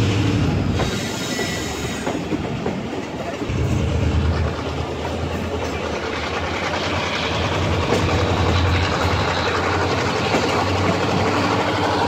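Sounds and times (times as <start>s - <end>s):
diesel locomotive engine drone: 0.0s - 12.0s
rail and wheel noise: 0.0s - 12.0s.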